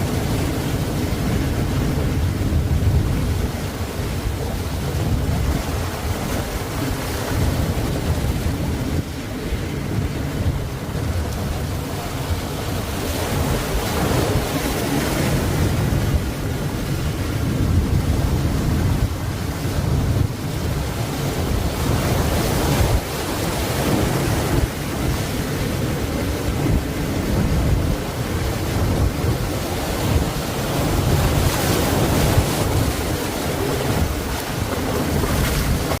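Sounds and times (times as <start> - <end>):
ocean waves breaking: 0.0 - 36.0
wind rumbling on microphone: 0.0 - 36.0.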